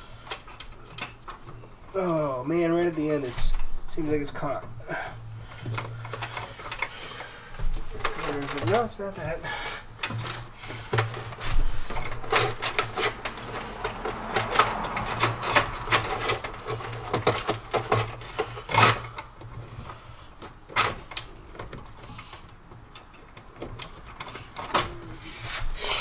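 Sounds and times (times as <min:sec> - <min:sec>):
rustling wires: 0:00.0 - 0:26.0.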